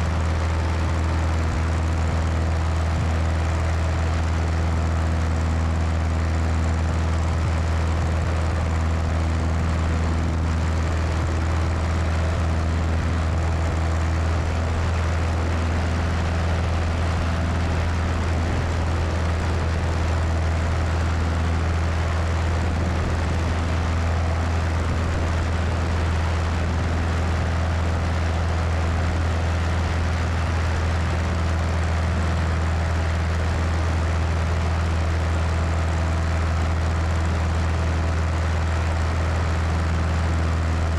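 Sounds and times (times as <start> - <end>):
aircraft engine and propeller drone: 0.0 - 40.9.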